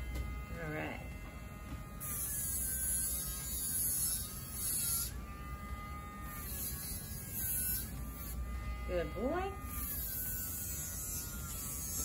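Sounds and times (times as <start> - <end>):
rotary tool motor buzz: 0.0 - 12.0.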